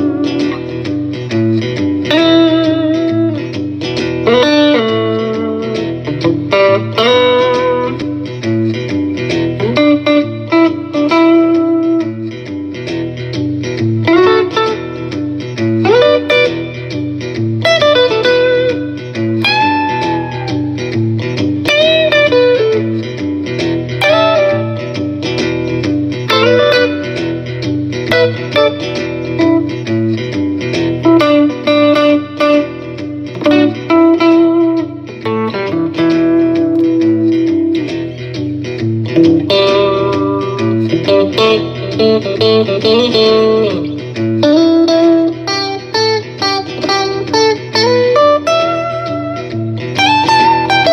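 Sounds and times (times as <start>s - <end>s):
electric guitar lead line: 0.0s - 50.9s.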